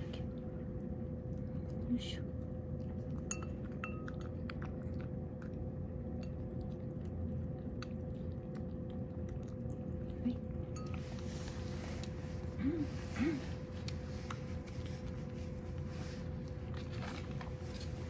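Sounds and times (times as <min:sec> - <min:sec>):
cat chewing and licking food: 0:00.0 - 0:18.0.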